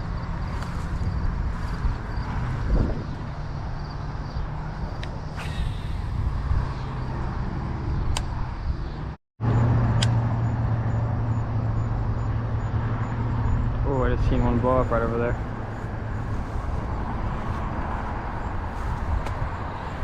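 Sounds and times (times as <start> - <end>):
engine hum: 0.0 - 20.0.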